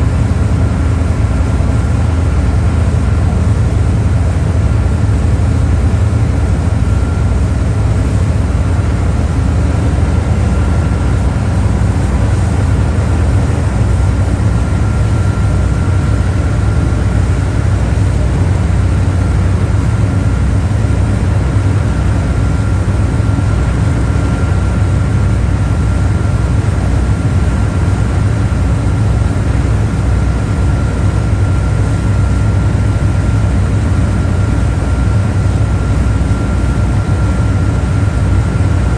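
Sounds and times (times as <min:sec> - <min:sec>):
boat engine low drone: 0:00.0 - 0:38.9
faint steady whine: 0:00.0 - 0:38.9.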